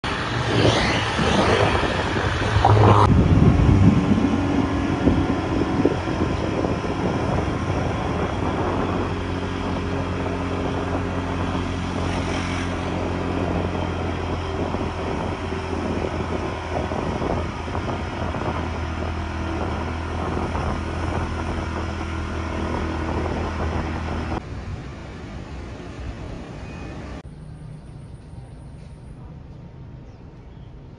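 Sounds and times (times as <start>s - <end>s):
vehicle engine running: 0.0s - 26.4s
road and wind noise: 0.0s - 30.9s.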